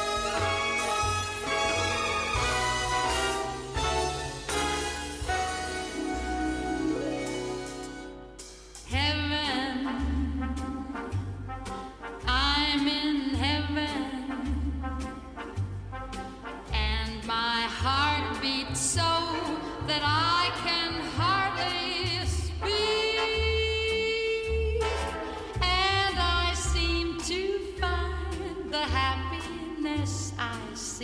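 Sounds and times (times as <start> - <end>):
big-band jazz music: 0.0 - 31.0.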